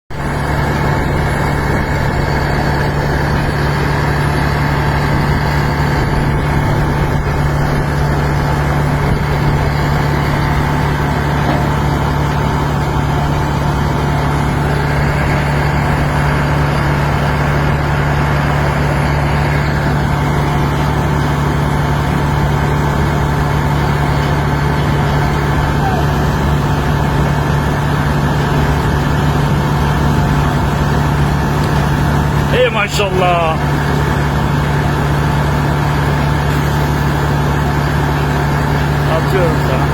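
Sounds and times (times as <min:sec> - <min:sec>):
diesel air compressor running: 0:00.1 - 0:39.9.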